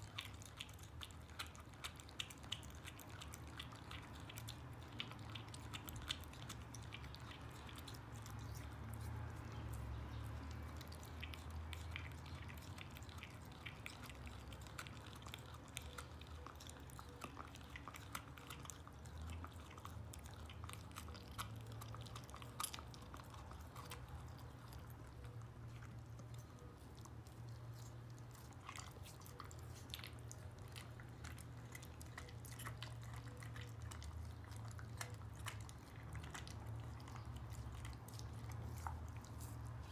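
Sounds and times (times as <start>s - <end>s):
dog chewing a bone: 0.0s - 39.9s.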